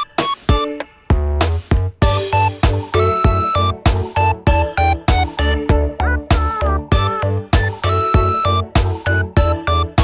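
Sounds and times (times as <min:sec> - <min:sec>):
bouncy electronic music: 0:00.0 - 0:10.0.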